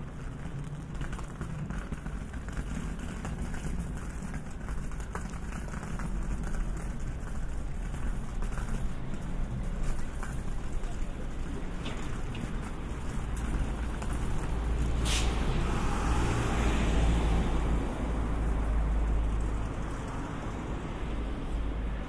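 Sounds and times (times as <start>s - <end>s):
footsteps on pavement: 0.0s - 20.9s
distant traffic hum: 0.0s - 22.0s.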